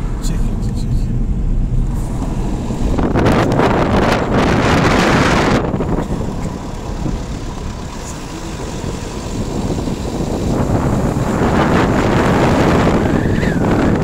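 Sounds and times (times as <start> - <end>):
vehicle road rumble: 0.0 - 14.0
wind rushing over microphone: 0.0 - 14.0.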